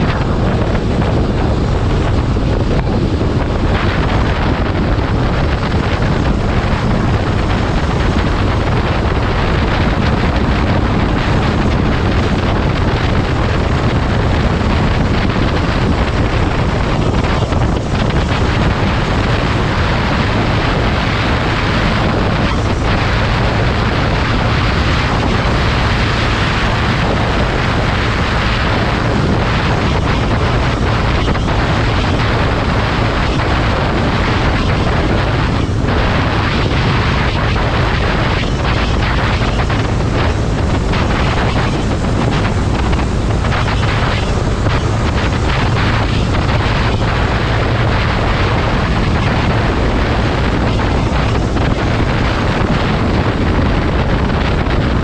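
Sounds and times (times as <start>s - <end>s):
low engine drone: 0.0s - 55.0s
wind rushing over microphone: 0.0s - 55.0s.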